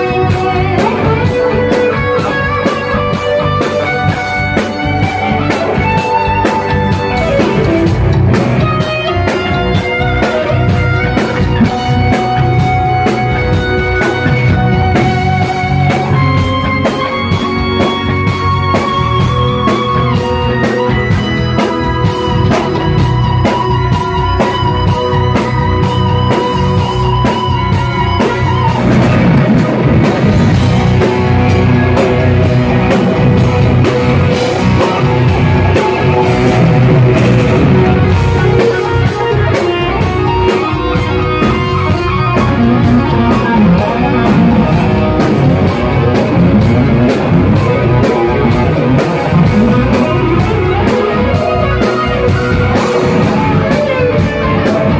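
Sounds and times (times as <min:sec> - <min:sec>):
bass guitar: 0:00.0 - 0:54.9
drum kit: 0:00.0 - 0:54.9
lead electric guitar: 0:00.0 - 0:54.9.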